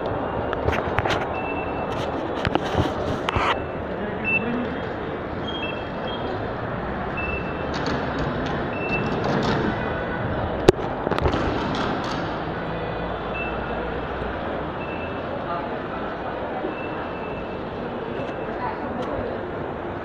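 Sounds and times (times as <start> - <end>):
crowd and hall noise: 0.0 - 20.0.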